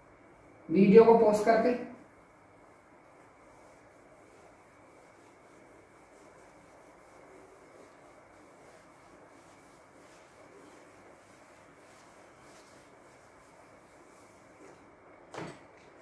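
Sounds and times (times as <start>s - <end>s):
steady hiss: 0.0s - 15.7s
rubbing strokes on whiteboard: 2.0s - 15.1s.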